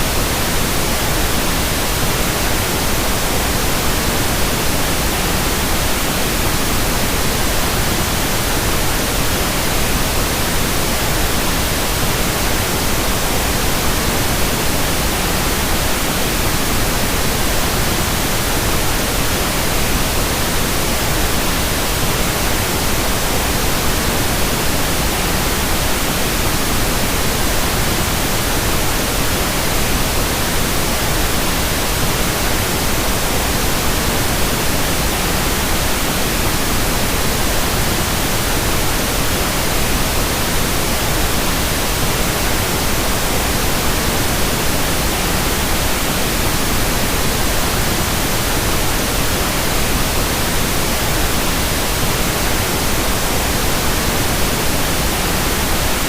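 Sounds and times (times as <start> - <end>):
steady masking noise hiss: 0.0 - 56.0.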